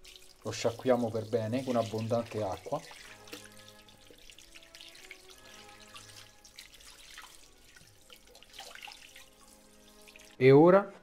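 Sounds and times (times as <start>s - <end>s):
tap water running in sink: 0.0s - 10.4s
soft background music: 0.0s - 11.0s.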